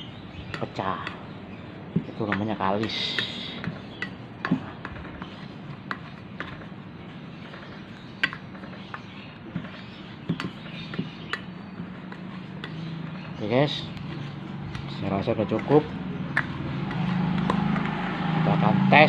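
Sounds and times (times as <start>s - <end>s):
spoon scraping bait in a bowl: 2.1s - 18.2s.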